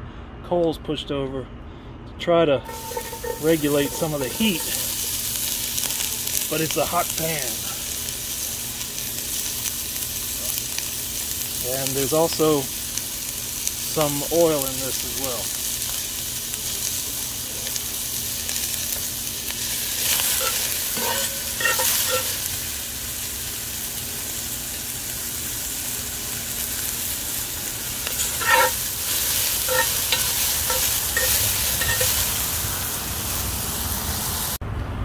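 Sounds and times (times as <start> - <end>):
onions sizzling in oil: 2.6 - 34.6.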